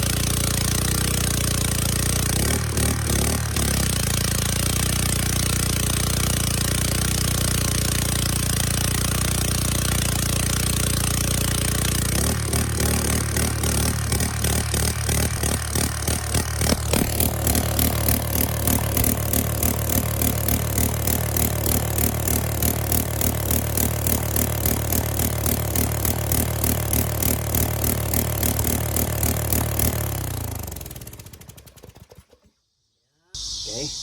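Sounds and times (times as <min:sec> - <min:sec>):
small gas engine running: 0:00.0 - 0:32.6.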